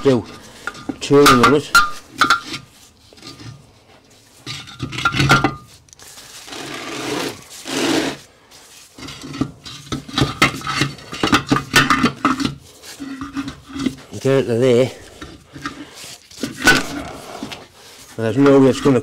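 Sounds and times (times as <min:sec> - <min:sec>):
metal scraping: 0:00.0 - 0:19.0.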